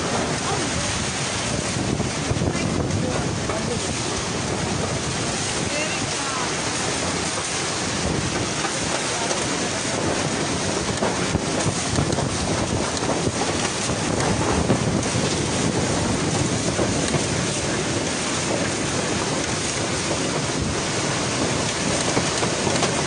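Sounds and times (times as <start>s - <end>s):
driving rain: 0.0s - 23.0s
strong wind buffeting microphone: 0.0s - 23.0s.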